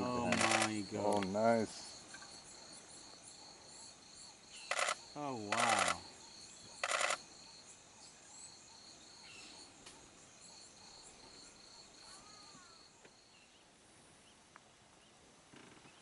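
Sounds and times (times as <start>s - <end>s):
insects chirping trill: 0.0s - 13.6s.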